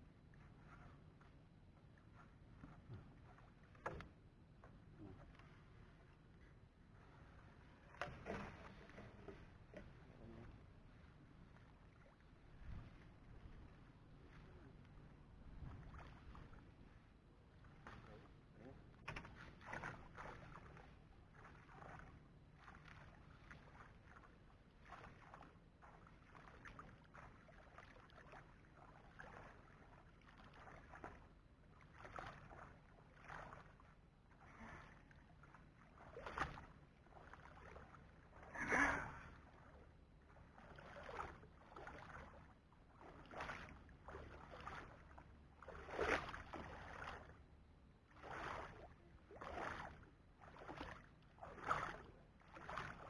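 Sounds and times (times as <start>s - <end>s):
water sloshing and splashing: 0.0s - 53.0s.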